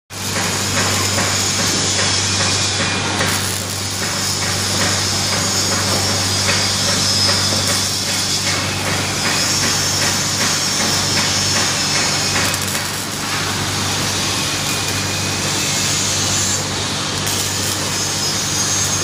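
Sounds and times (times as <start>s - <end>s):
welding arc crackling: 0.1s - 19.0s.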